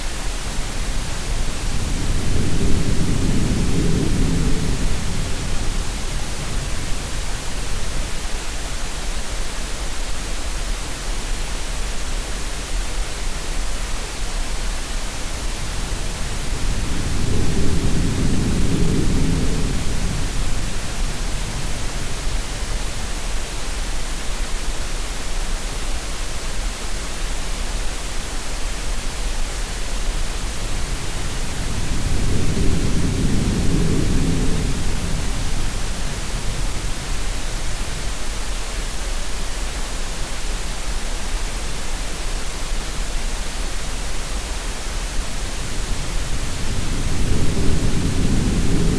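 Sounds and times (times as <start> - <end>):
green noise hiss: 0.0 - 48.9.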